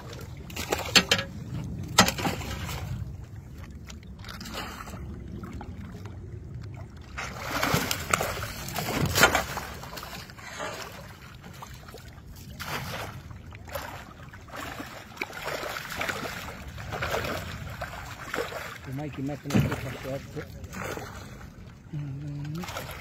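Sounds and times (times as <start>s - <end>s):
fish thrashing and splashing: 0.0s - 21.6s
steady low rumble: 0.0s - 23.0s.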